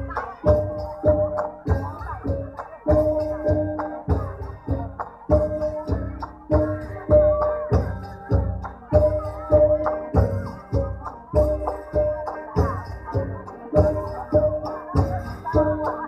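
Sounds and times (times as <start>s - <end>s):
wavering melody: 0.0s - 16.0s.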